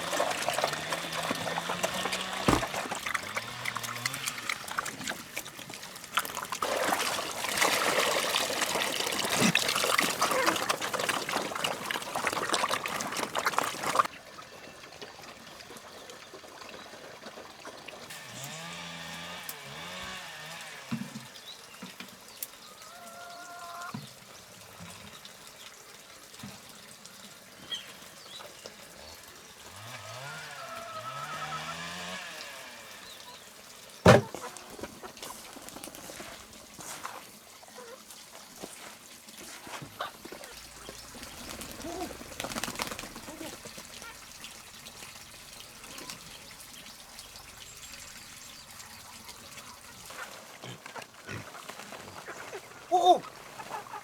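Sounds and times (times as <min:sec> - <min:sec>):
water pouring and splashing: 0:00.0 - 0:18.5, 0:20.4 - 0:54.0.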